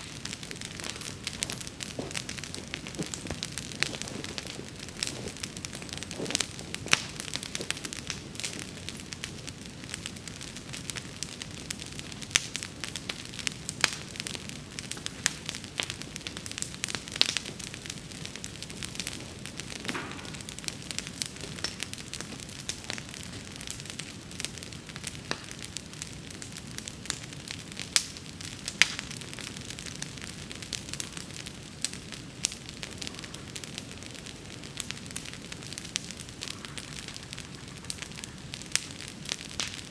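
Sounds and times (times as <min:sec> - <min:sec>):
bonfire flame rushing: 0:00.0 - 0:39.9
burning wood crackling and popping: 0:00.0 - 0:39.9.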